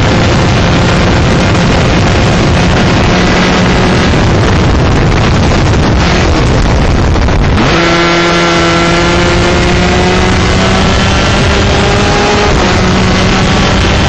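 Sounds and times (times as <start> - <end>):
kart engine at high revs: 0.0 - 14.0
wind rush on microphone: 0.0 - 14.0.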